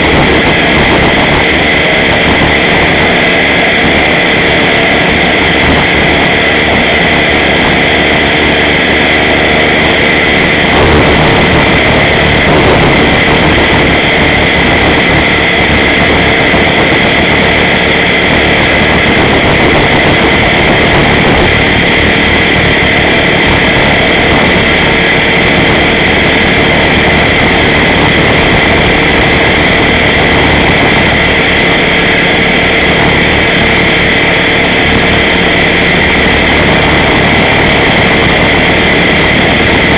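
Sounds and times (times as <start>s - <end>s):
electric motor and gear whine: 0.0s - 39.9s
rotor rushing: 0.0s - 39.9s.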